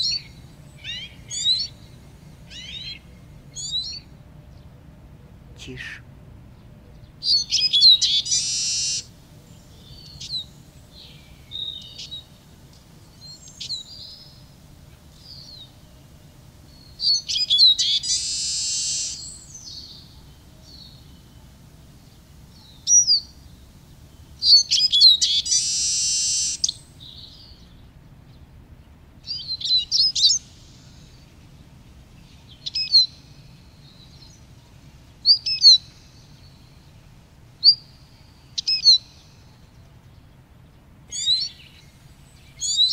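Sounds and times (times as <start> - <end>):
bird twittering song: 0.0 - 42.9.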